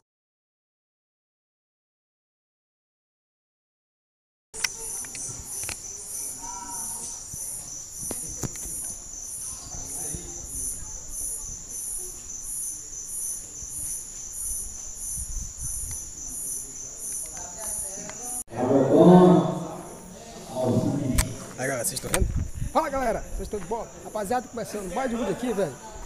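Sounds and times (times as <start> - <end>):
cricket chirping: 4.6 - 26.0
faint voices: 4.6 - 26.0.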